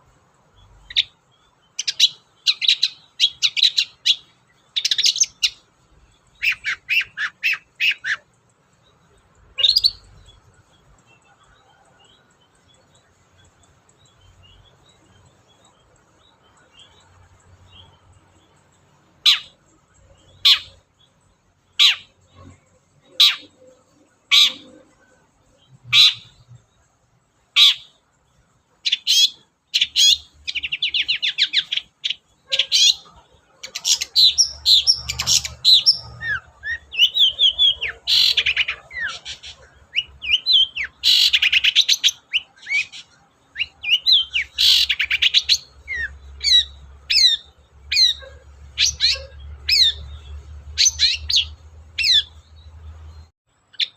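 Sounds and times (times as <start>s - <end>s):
bird chattering song with trills: 0.0s - 53.9s
bird harsh calls: 0.7s - 12.0s, 19.2s - 26.7s, 27.4s - 28.1s, 28.7s - 52.7s.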